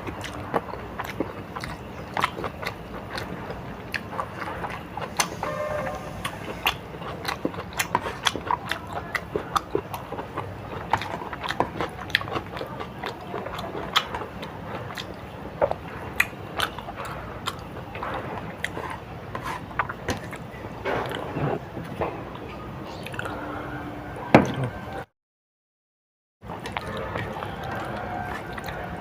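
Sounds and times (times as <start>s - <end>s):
chewing crunchy food: 0.0s - 23.6s, 26.4s - 29.0s.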